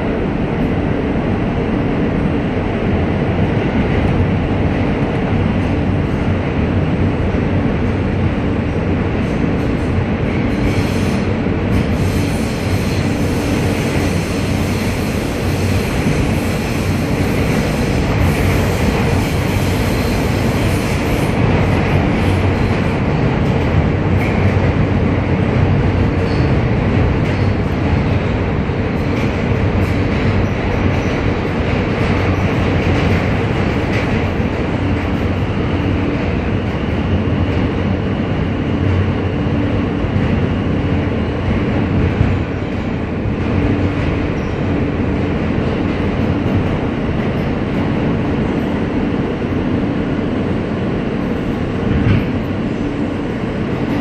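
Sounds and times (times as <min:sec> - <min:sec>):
subway wheels rumbling on rail: 0:00.0 - 0:54.0.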